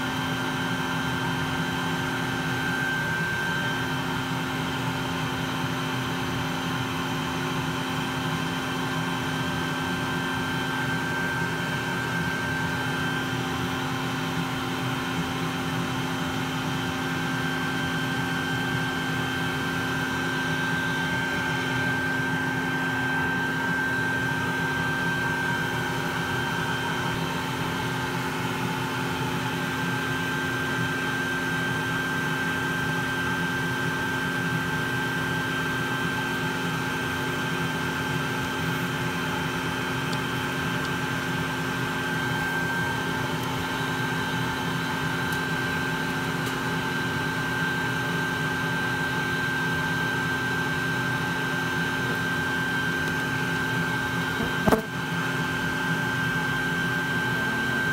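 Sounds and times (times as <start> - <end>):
bee vacuum motor whine: 0.0 - 57.9.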